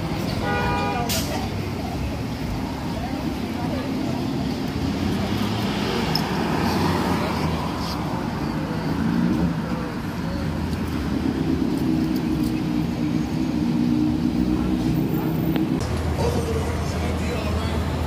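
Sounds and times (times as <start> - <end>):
bus engine humming: 0.0 - 18.0
traffic noise: 0.0 - 18.0.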